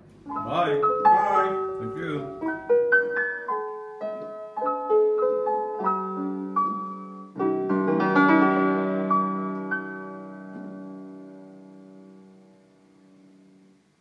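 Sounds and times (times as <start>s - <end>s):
gentle piano melody: 0.0s - 13.8s.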